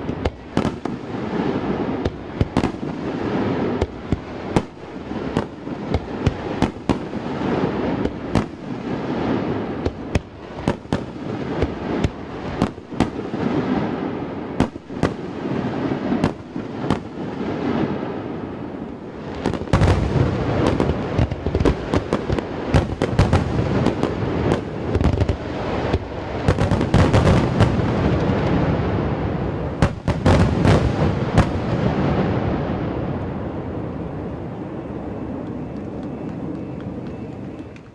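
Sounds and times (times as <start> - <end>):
fireworks bangs: 0.0 - 37.9
rumbling fireworks tail: 0.0 - 37.9.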